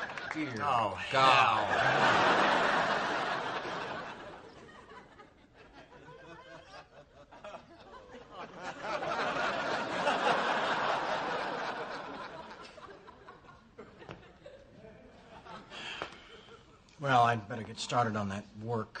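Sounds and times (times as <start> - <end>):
studio audience laughing: 0.0 - 16.8.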